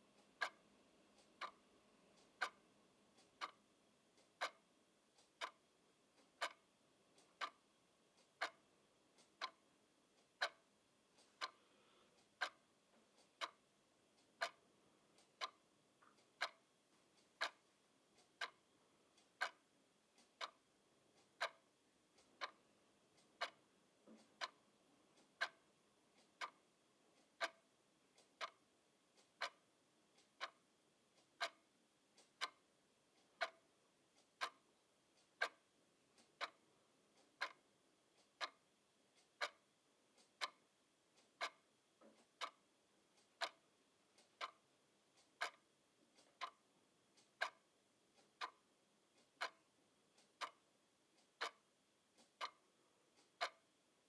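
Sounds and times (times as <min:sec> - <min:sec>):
clock ticking: 0:00.0 - 0:11.6, 0:12.2 - 0:54.0.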